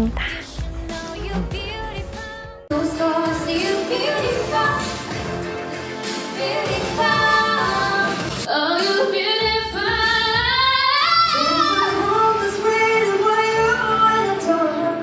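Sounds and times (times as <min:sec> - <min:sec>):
woman singing with music: 0:00.0 - 0:15.0.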